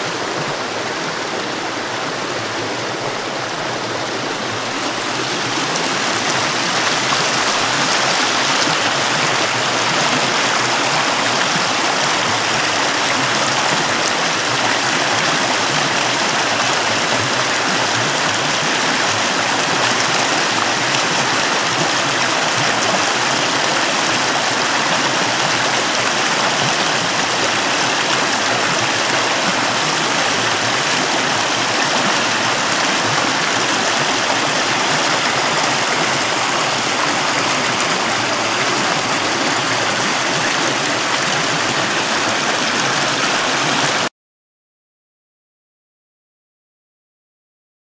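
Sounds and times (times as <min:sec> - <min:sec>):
water rushing over rocks: 0:00.0 - 0:44.1.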